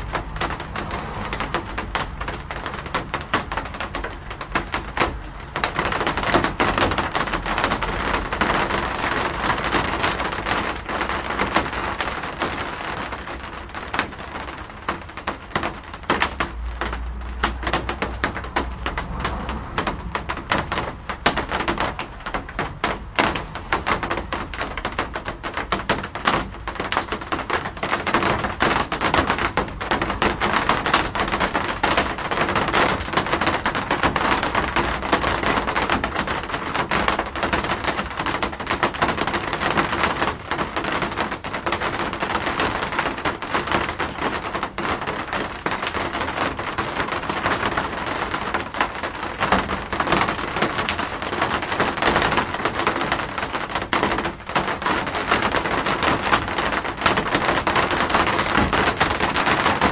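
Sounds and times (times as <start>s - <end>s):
heavy rain on hard surface: 0.0s - 59.9s.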